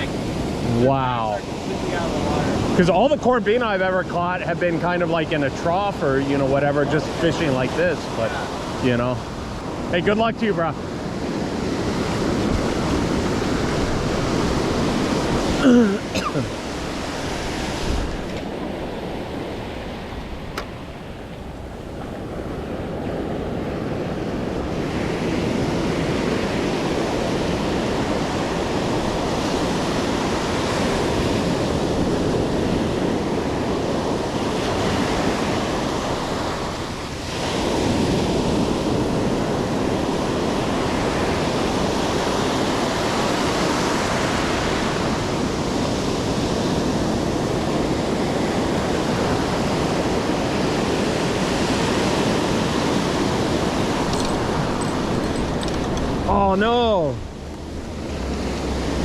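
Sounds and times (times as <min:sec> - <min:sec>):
ocean surf washing onto beach: 0:00.0 - 0:59.0
wind buffeting microphone: 0:00.0 - 0:59.0.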